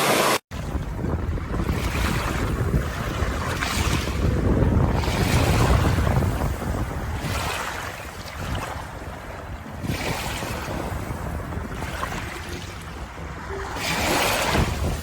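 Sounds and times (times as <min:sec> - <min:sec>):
sea waves washing in: 0:00.0 - 0:15.0.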